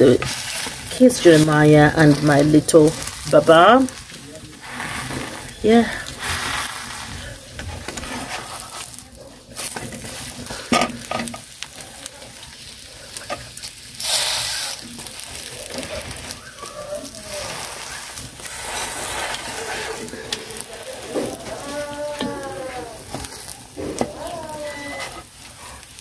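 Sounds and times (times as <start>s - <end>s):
omelette sizzling in a frying pan: 0.0s - 26.0s
spatula scraping a pan: 0.0s - 26.0s.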